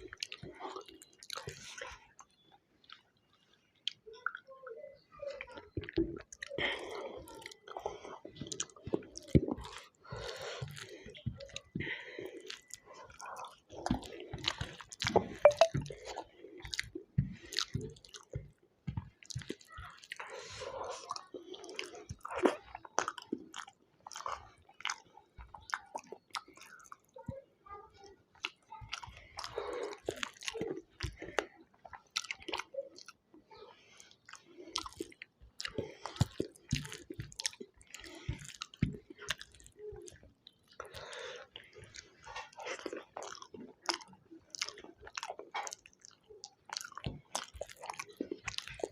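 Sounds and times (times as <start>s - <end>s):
chewing and mouth sounds: 0.0s - 4.6s, 5.3s - 48.9s.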